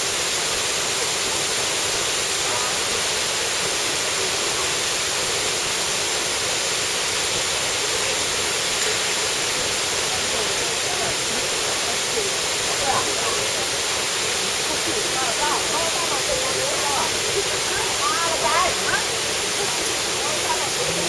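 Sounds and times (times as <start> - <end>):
waterfall pouring: 0.0 - 21.0.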